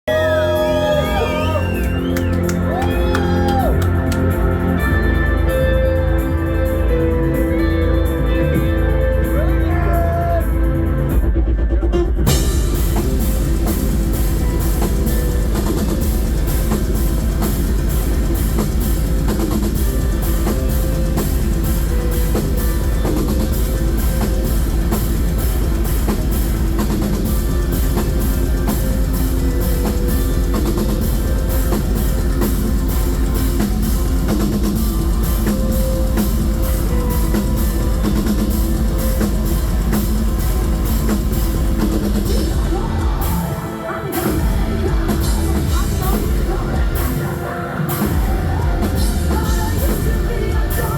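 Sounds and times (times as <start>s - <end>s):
drum kit beat: 0.1s - 50.9s
metal band playing live: 0.1s - 50.9s.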